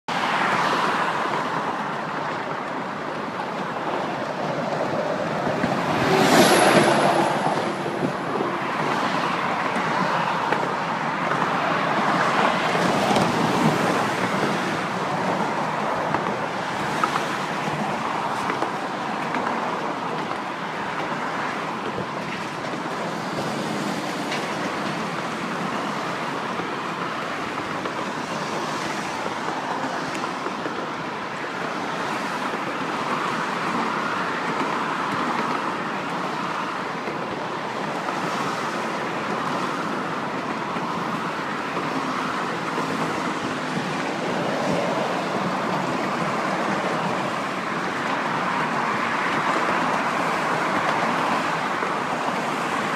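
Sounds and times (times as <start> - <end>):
road traffic rushing: 0.1 - 52.9.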